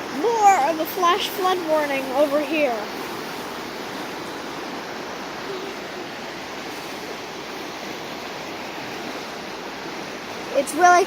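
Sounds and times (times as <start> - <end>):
flooded creek rushing: 0.0 - 11.0.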